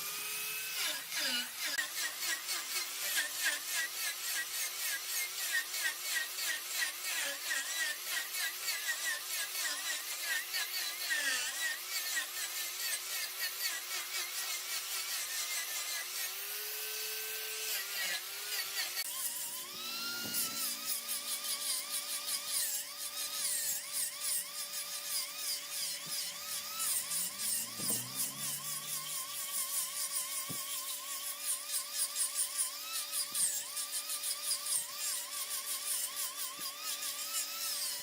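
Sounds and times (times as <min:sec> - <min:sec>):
power tool whine: 0:00.0 - 0:38.0.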